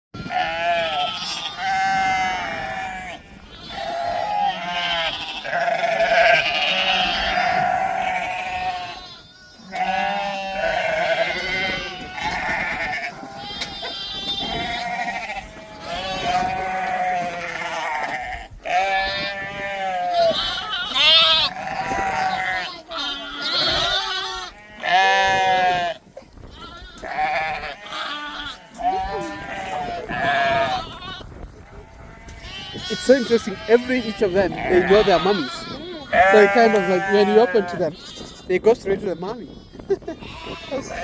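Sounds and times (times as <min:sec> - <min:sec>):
goats bleating: 0:00.2 - 0:41.0.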